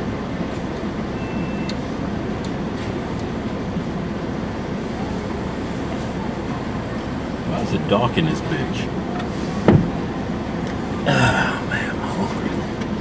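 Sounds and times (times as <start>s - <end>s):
air conditioning blowing: 0.0s - 13.0s
car engine idling: 0.0s - 13.0s.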